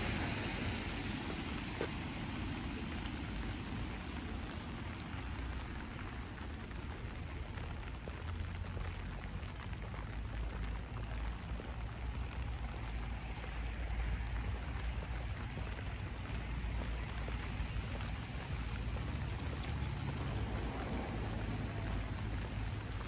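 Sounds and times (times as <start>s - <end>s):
low steady rumble: 0.0s - 23.0s
rain drops ticking: 0.0s - 23.0s
steady rain falling: 0.0s - 23.0s.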